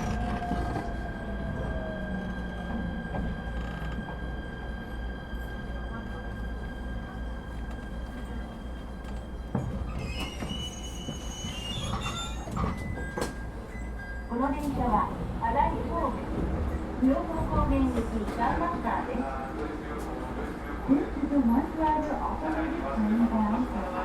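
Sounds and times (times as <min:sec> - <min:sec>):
train running rumble: 0:00.0 - 0:20.8.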